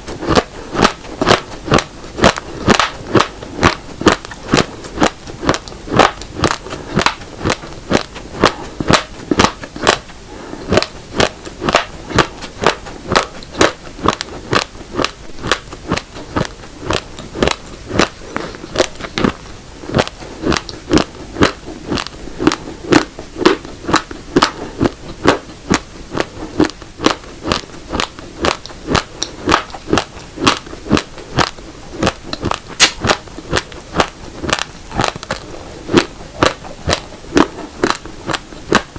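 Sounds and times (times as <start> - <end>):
chewing hard rice grains: 0.0 - 38.9.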